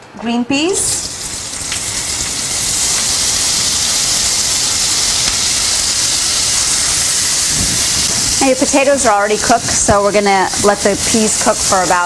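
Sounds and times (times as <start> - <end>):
food sizzling in hot oil: 0.8 - 12.0.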